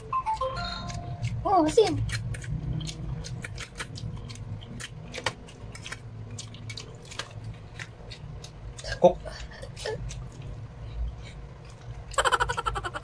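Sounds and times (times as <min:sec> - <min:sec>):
low steady hum: 0:00.0 - 0:13.0
chewing and mouth smacks: 0:00.3 - 0:12.2.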